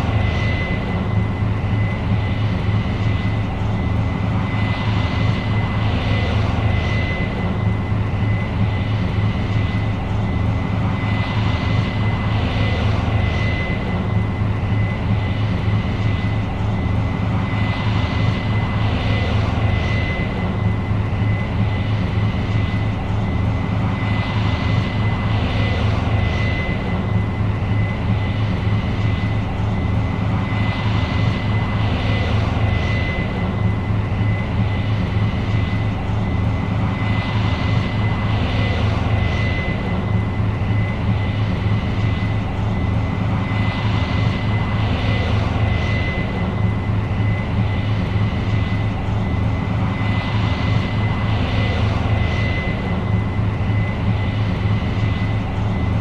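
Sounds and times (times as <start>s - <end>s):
combine engine drone: 0.0s - 56.0s
constant high whine: 0.0s - 56.0s.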